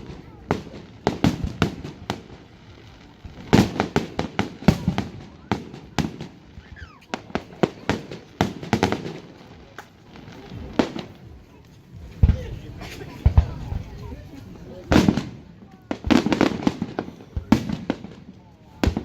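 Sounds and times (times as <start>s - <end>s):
fireworks bursting with sharp bangs: 0.0s - 19.0s.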